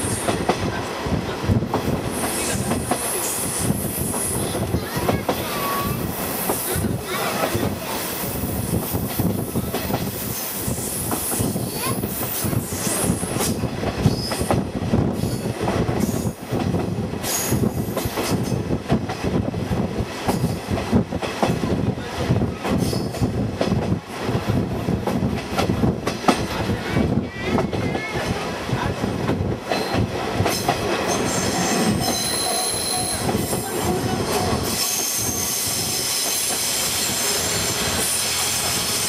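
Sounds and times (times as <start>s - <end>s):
train running at speed: 0.0s - 39.0s.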